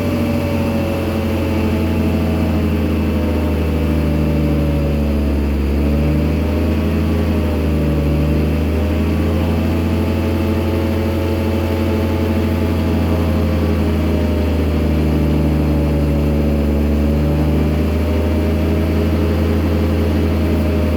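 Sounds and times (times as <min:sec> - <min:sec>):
auger drilling machine drone: 0:00.0 - 0:20.9.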